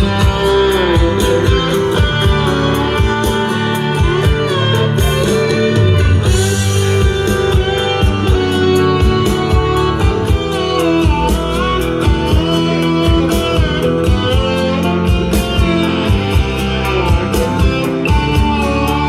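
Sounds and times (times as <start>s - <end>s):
bass: 0.0s - 19.0s
drum beat: 0.0s - 19.0s
electric guitars: 0.0s - 19.0s.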